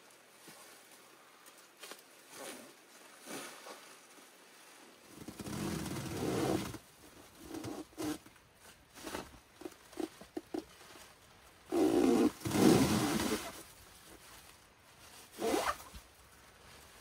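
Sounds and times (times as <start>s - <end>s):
plastic sheeting rustling in wind: 0.0s - 17.0s.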